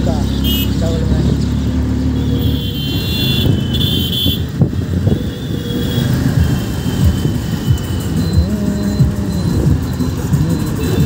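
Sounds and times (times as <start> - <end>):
auto-rickshaw engine and road noise: 0.0 - 11.0
motorcycles and cars passing: 0.0 - 11.0.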